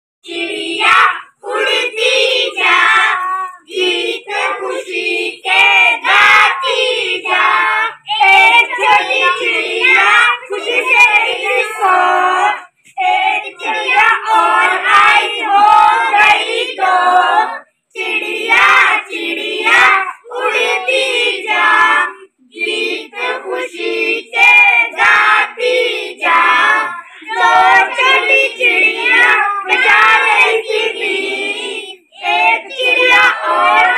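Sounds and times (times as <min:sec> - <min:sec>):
children singing: 0:00.2 - 0:33.9.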